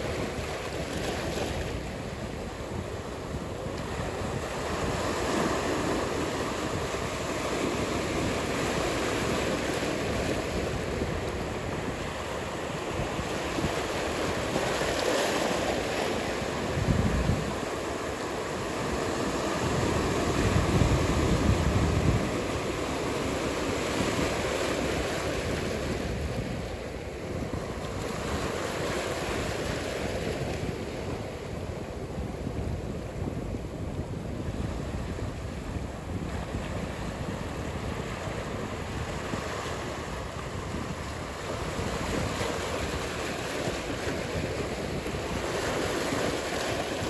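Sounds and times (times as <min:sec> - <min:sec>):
waves breaking: 0:00.0 - 0:47.0
wind: 0:00.0 - 0:47.0.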